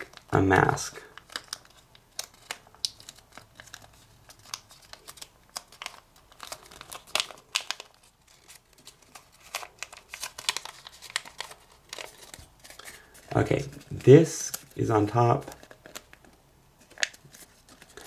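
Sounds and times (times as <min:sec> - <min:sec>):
paper crinkling: 0:00.0 - 0:18.0.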